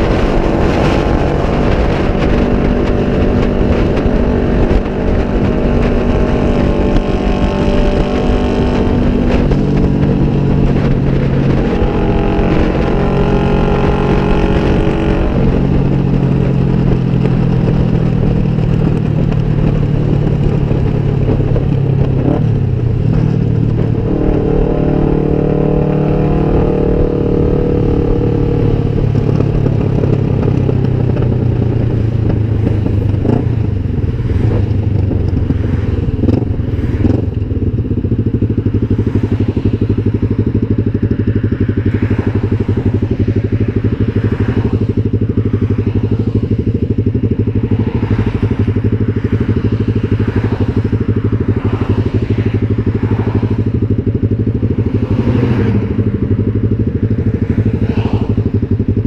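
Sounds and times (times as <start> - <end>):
motorcycle engine running loud: 0.0 - 59.0.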